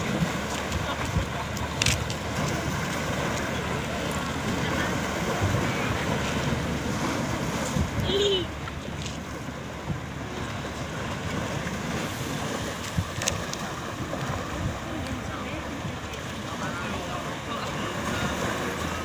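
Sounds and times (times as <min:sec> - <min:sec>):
small waves washing on rocks: 0:00.0 - 0:19.0
wind on microphone: 0:00.0 - 0:19.0.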